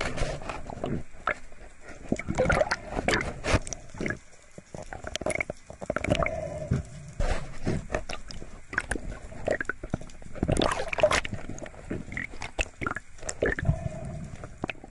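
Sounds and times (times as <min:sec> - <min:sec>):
underwater knocks and clicks: 0:02.1 - 0:14.9.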